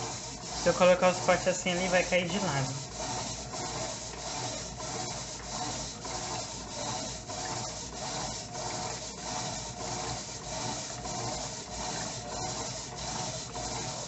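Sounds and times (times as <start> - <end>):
washing machine swishing: 0.0 - 14.0.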